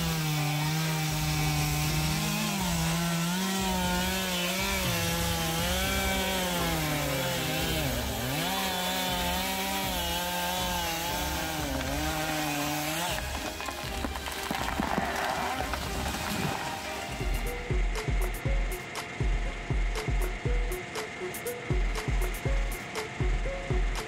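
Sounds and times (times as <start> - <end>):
chainsaw cutting tree trunk: 0.0 - 24.0.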